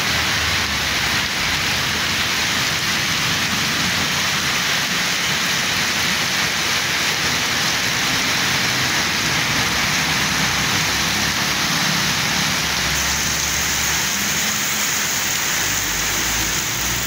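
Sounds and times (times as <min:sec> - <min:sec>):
heavy rain on road: 0:00.0 - 0:17.0
vehicles driving on wet road: 0:00.0 - 0:17.0.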